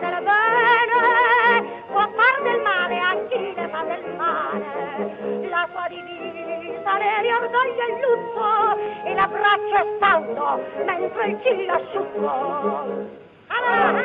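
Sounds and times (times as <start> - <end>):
rhythmic accompaniment: 0.0 - 14.0
woman singing with vibrato: 0.0 - 14.0.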